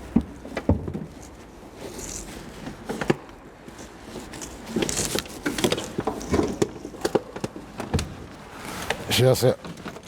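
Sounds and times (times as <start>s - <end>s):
hands working on a car: 0.0s - 10.0s.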